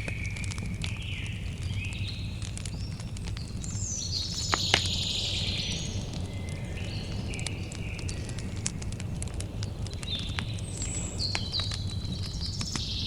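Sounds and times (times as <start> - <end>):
birds chirping: 0.0 - 13.0
campfire crackling and popping: 0.0 - 13.0
steady low rumble: 0.0 - 13.0.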